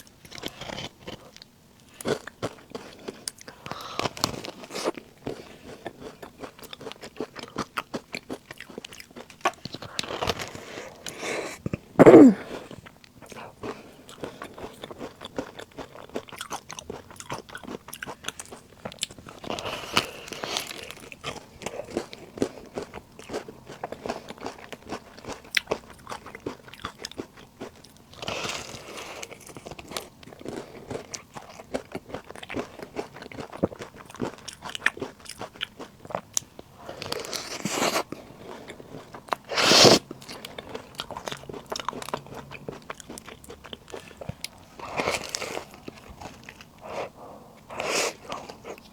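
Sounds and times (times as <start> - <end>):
chewing snacks: 0.0 - 48.9.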